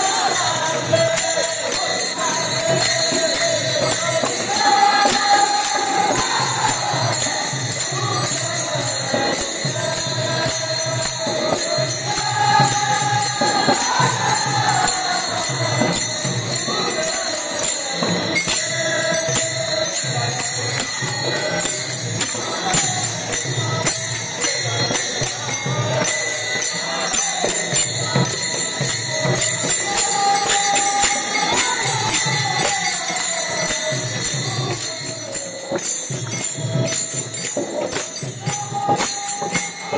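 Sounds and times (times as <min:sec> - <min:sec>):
men singing devotional song: 0:00.0 - 0:39.9.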